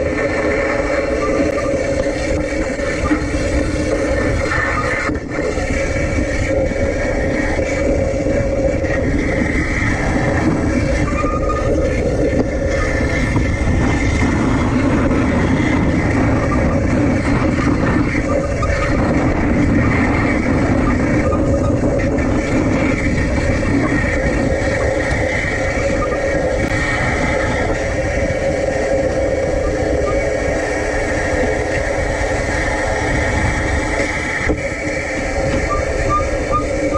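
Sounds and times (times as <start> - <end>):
steady hum: 0.0 - 36.9
tram rumble: 0.0 - 36.9.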